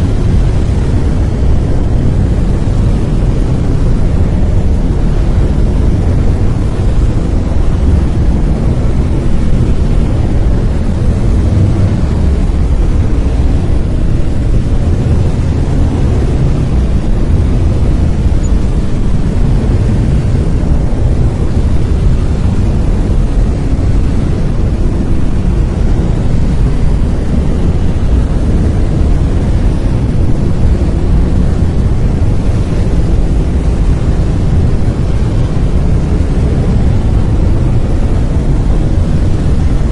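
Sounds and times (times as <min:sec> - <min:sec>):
deep rumbling brown noise: 0:00.0 - 0:39.9.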